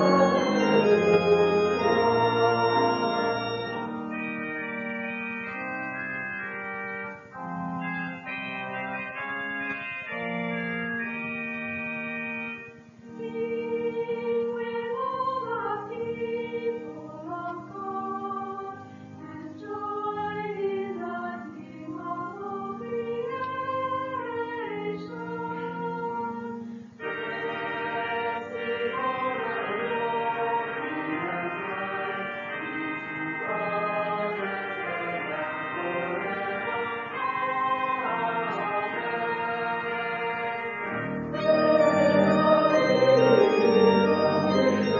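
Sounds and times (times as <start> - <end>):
church organ playing chords: 0.0 - 44.9.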